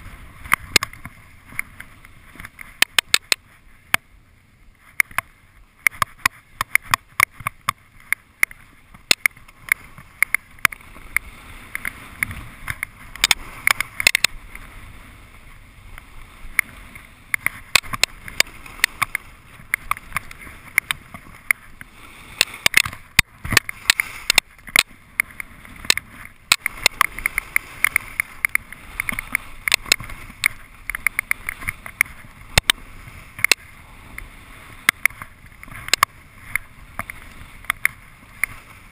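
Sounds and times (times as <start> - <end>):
sharp irregular clicks: 0.4 - 4.0, 5.0 - 14.4, 16.4 - 21.6, 22.4 - 32.8, 33.4 - 38.6.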